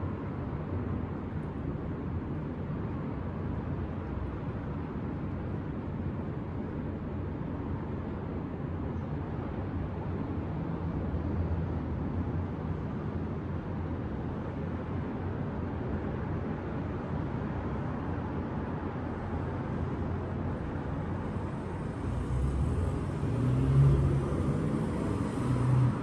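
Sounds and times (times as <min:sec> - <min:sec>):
distant city traffic rumble: 0:00.0 - 0:26.0.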